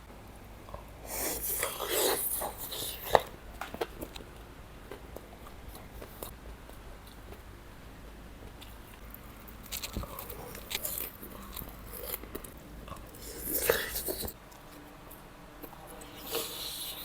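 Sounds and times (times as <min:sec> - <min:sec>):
crispy fried food crackling: 0:00.6 - 0:17.0.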